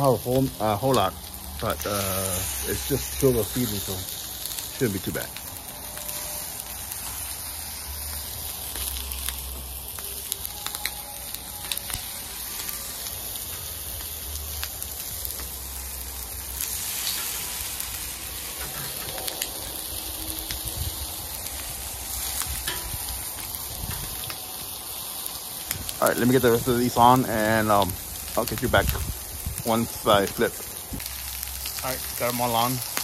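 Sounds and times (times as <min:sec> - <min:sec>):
chicken wings sizzling on griddle: 0:00.0 - 0:33.0.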